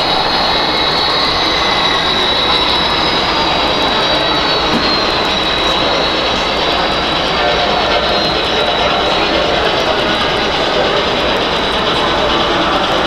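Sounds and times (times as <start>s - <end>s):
model train rolling with whine: 0.0s - 13.0s.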